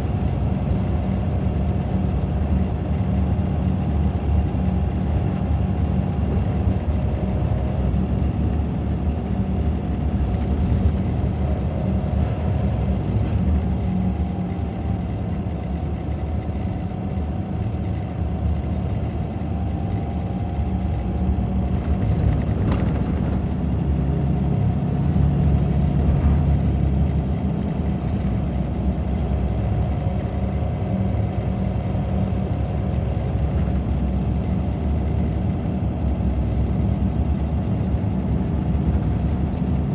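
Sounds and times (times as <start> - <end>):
diesel bus engine running: 0.0 - 39.9
faint engine whine: 0.0 - 39.9.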